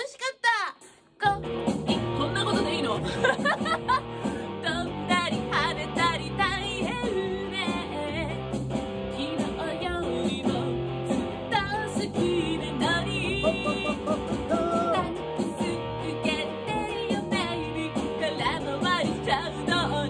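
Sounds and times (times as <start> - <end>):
woman singing pop song: 0.0 - 20.0
fuzz electric guitar: 1.3 - 20.0.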